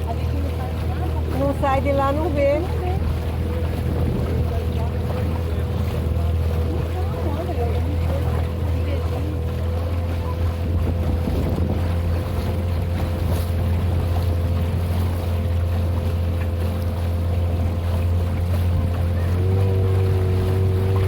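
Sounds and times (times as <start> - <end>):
small boat motor droning: 0.0 - 21.0
wind on microphone: 0.7 - 21.0.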